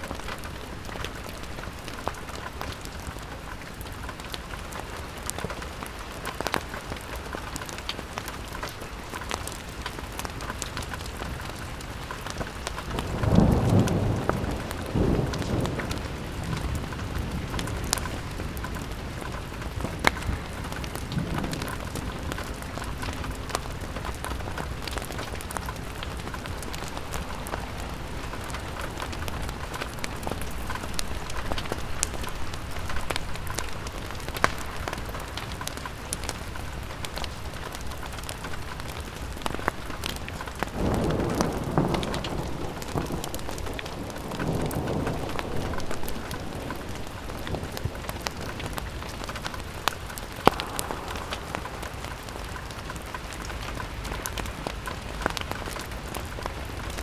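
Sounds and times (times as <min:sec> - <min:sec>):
rain pattering on a window: 0:00.0 - 0:57.0
thunder rumbling: 0:00.0 - 0:57.0.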